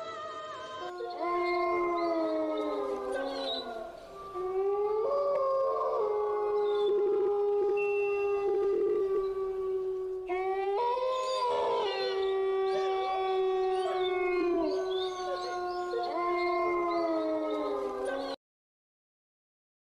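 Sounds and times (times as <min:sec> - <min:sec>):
wailing howl-like tones: 0:00.0 - 0:18.4.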